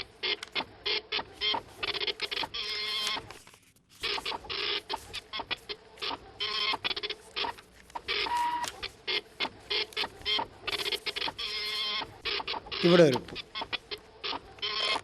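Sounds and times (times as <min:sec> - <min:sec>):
printing machine clicking: 0:00.0 - 0:03.3, 0:04.0 - 0:15.0.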